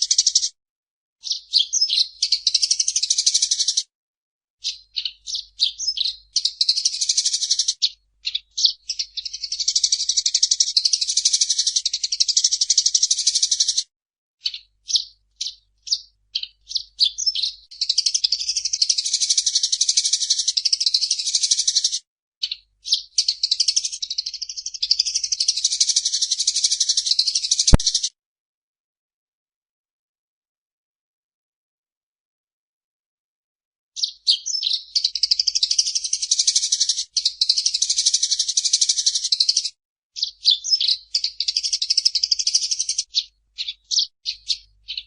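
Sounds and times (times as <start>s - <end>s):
sparrow chattering chirps: 0.0s - 0.6s, 1.2s - 3.8s, 4.6s - 13.8s, 14.4s - 28.1s, 34.0s - 45.0s.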